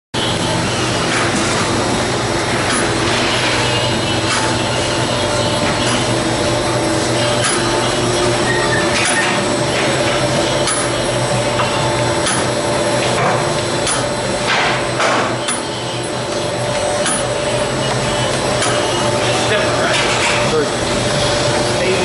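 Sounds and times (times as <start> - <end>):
machine hum: 0.2 - 22.0.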